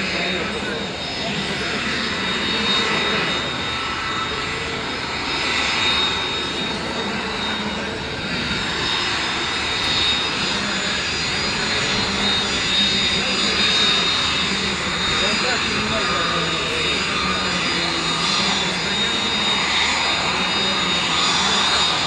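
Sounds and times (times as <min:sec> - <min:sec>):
aircraft engines rushing: 0:00.0 - 0:22.0
engine high whine: 0:00.0 - 0:22.0.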